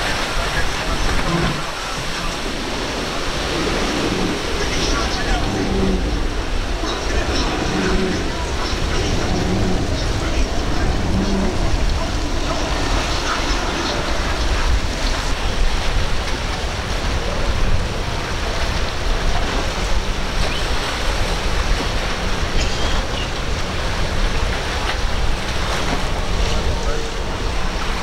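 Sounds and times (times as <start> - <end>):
outboard engines droning: 0.0 - 28.0
waves and boat spray: 0.0 - 28.0
wind rushing: 0.0 - 28.0.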